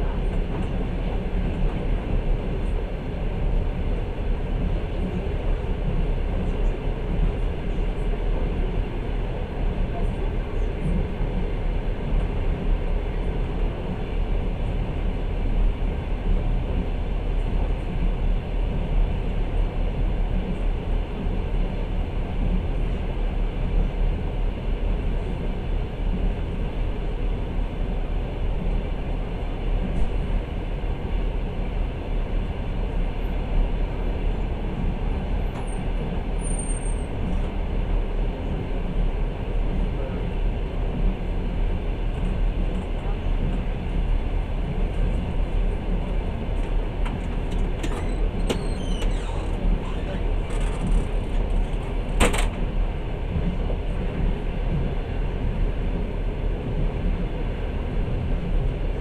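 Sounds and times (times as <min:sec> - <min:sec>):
train rumbling along the track: 0:00.0 - 0:59.0.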